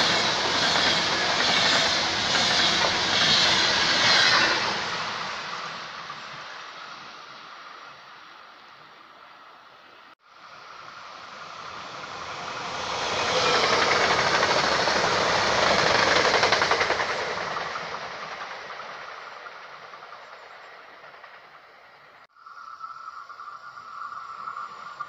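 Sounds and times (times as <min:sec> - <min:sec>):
train passing at speed: 0:00.0 - 0:08.5, 0:10.1 - 0:22.8.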